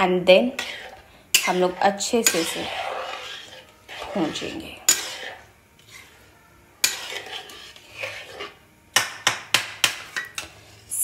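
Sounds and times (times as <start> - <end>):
metal spatula scraping a pot: 0.2 - 11.0.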